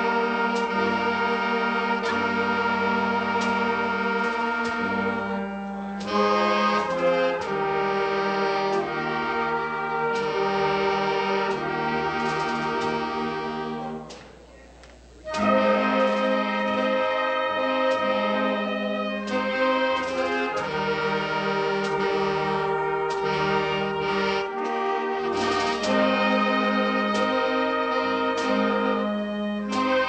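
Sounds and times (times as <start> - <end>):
wind band playing a fanfare: 0.0 - 14.2, 15.2 - 30.0.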